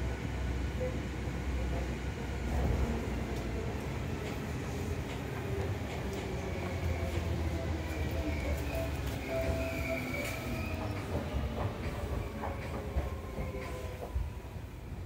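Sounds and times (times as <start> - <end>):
train wheels rumbling: 1.6 - 15.0.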